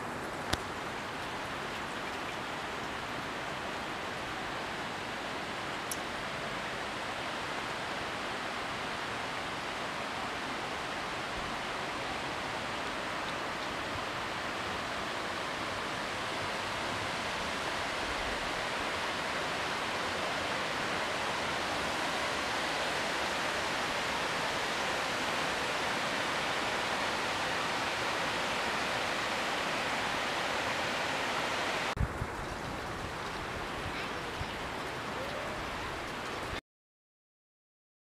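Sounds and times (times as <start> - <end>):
river rushing over rocks: 0.0 - 32.0.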